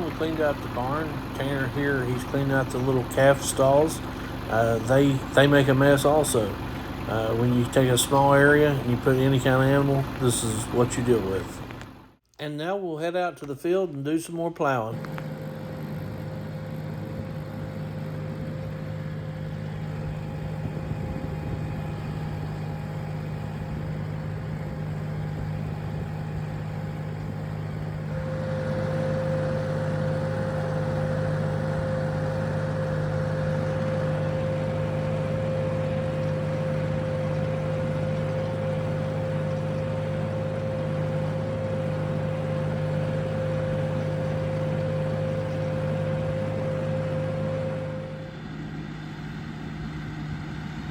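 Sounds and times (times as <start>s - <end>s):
high steady whine: 0.0s - 12.2s, 14.9s - 50.9s
tractor engine running: 0.0s - 12.2s, 14.6s - 50.9s.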